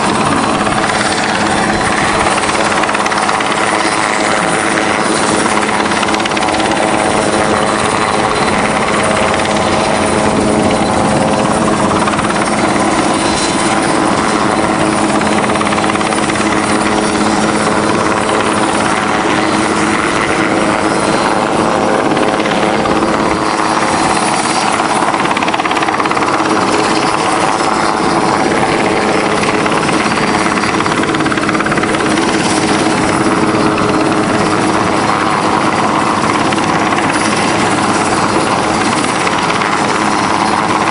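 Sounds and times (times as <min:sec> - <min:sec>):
helicopter rotor and turbine noise: 0:00.0 - 0:40.9.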